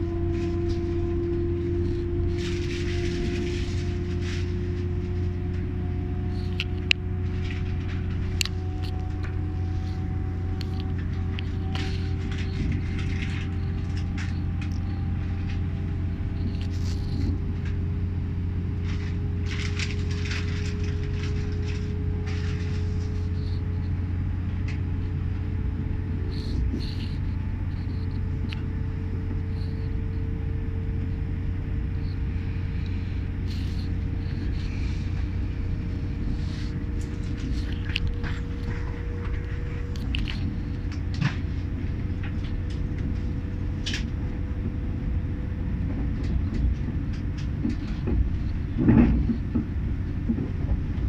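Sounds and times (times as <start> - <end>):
faint rising whine: 0.0 - 51.0
train cabin low rumble: 0.0 - 51.0.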